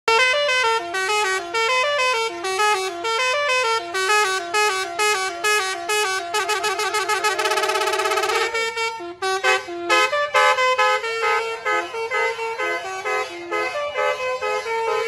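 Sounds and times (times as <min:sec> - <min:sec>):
bus horn playing a melody: 0:00.1 - 0:15.0
fast warbling horn trill: 0:00.1 - 0:15.0.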